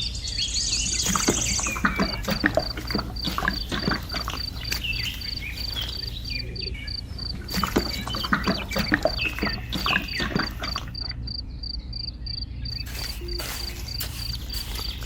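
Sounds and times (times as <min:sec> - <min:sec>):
short chirping calls: 0:00.0 - 0:11.2, 0:12.3 - 0:15.0
cricket chirping: 0:00.0 - 0:15.0
low steady hum: 0:00.0 - 0:15.0.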